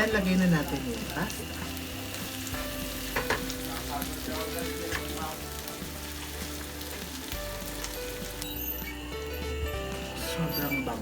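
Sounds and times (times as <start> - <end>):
pasta sizzling in a pan: 0.0 - 11.0.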